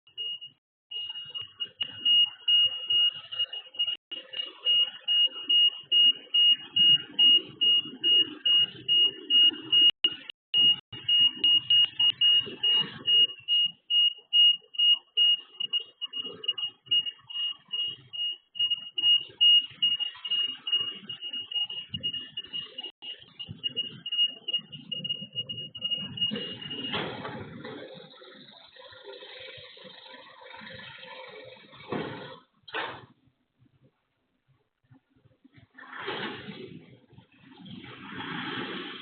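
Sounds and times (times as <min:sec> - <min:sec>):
high-pitched electronic alarm beeping: 0:00.1 - 0:32.0.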